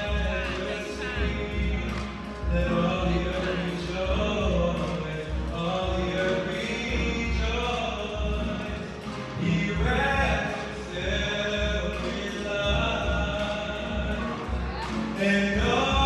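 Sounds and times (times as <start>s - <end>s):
gospel-style singing with bass: 0.0s - 16.0s.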